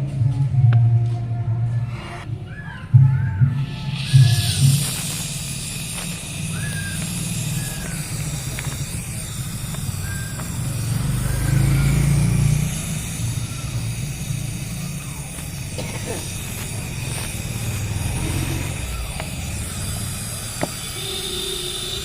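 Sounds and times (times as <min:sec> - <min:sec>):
traffic rumble: 0:00.0 - 0:22.0
vehicle passing: 0:03.6 - 0:22.0.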